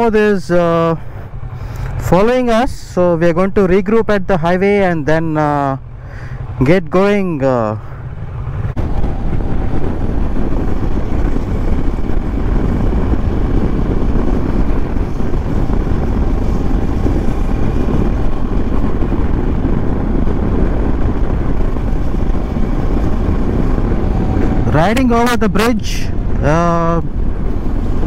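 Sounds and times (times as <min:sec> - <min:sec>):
motorcycle engine hum: 0:00.0 - 0:28.0
wind rushing over microphone: 0:00.0 - 0:28.0.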